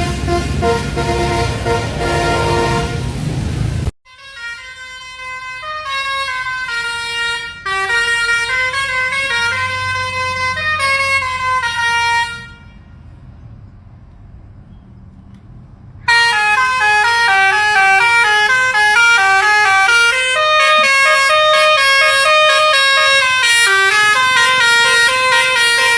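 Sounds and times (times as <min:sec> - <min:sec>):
musical bus horn playing a tune: 0:00.0 - 0:03.3, 0:04.1 - 0:12.9, 0:16.1 - 0:25.9.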